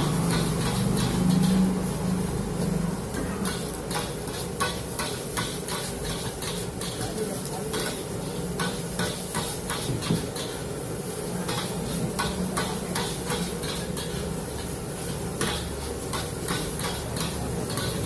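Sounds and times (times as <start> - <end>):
metal spatula scraping a wok: 0.0 - 18.0
rice sizzling: 0.0 - 18.0.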